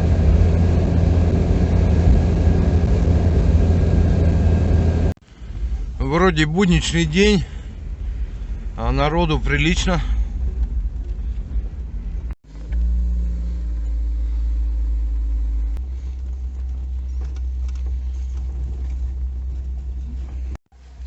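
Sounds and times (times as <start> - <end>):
car moving slowly: 0.0 - 21.0.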